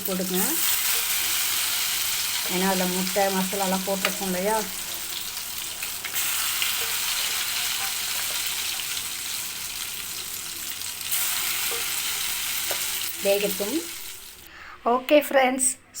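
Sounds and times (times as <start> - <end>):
chicken sizzling in hot oil: 0.0 - 14.5.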